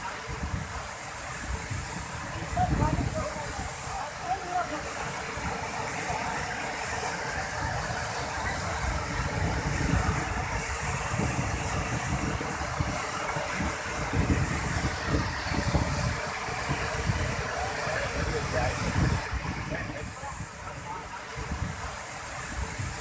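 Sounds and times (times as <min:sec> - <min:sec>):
water rushing over dam: 0:00.0 - 0:23.0.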